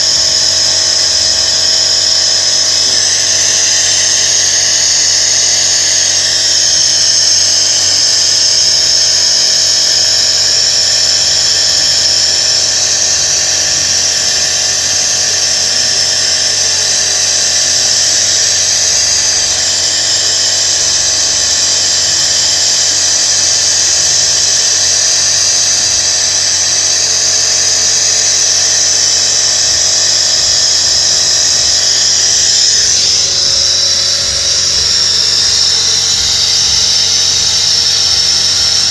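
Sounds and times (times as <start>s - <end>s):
car engine running at raised revs: 0.0s - 38.9s
high-pitched whine: 0.0s - 38.9s.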